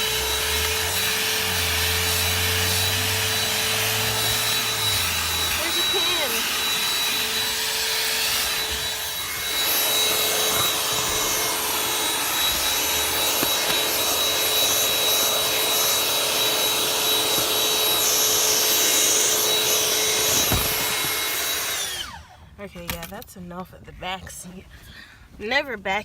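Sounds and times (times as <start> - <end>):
cordless vacuum cleaner running: 0.0 - 22.4.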